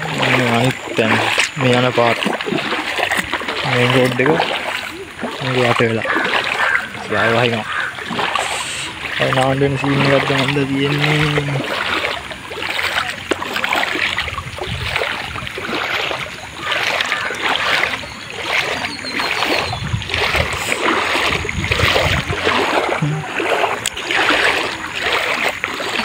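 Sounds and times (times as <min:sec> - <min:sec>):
legs wading through water: 0:00.0 - 0:26.0.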